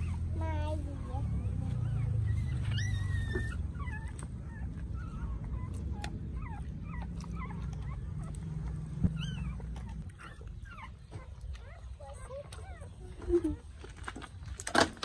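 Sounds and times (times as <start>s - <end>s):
dog whimpering: 0.0s - 13.8s
steady low rumble: 0.0s - 14.5s.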